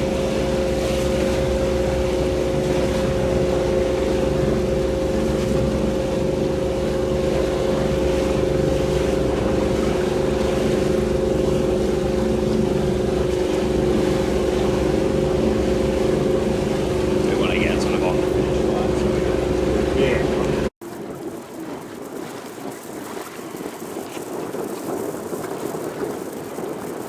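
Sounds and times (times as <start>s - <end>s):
motorboat engine humming: 0.0s - 27.0s
water noise: 0.0s - 27.0s
wind: 0.0s - 27.0s.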